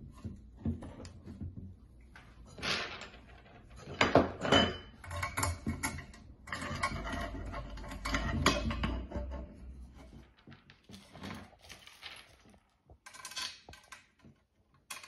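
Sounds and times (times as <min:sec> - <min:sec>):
rattling and handling noise: 0:00.0 - 0:15.0.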